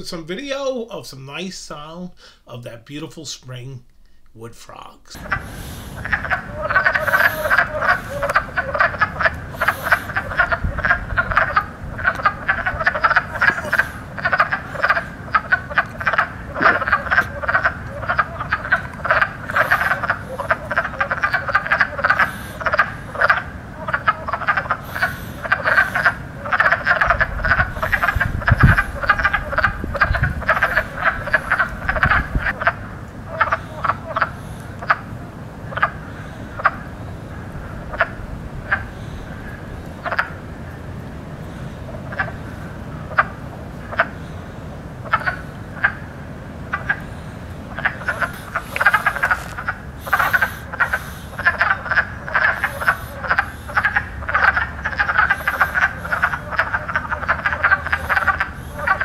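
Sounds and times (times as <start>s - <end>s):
frogs croaking in chorus: 5.1s - 59.0s.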